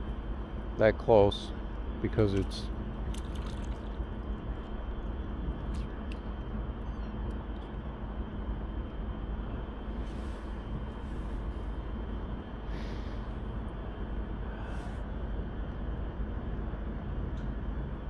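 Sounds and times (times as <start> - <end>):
low outdoor rumbling: 0.0 - 18.0.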